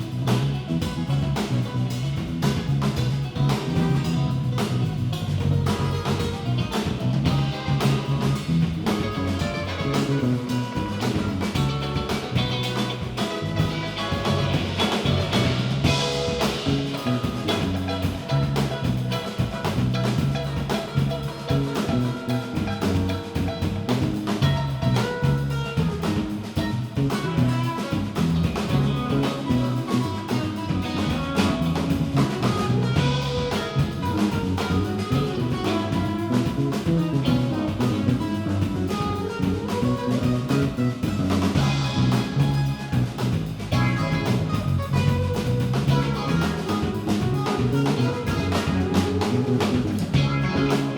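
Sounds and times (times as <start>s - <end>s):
live band playing: 0.0s - 50.9s.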